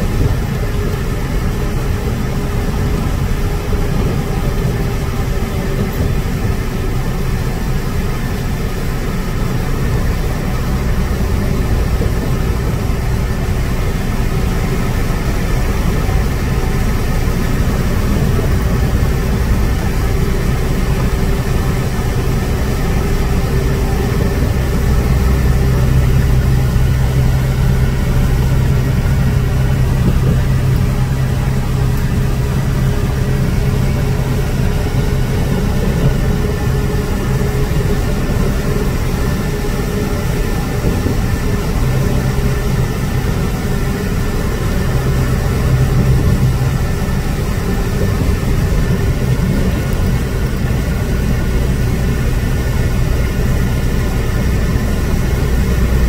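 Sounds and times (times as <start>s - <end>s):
truck engine hum: 0.0s - 56.0s
tyre and wind noise: 0.0s - 56.0s.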